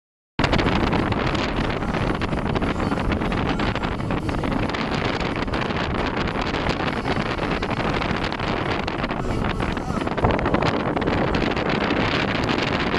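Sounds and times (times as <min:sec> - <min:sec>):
road noise: 0:00.4 - 0:12.9
wind buffeting microphone: 0:00.4 - 0:12.9.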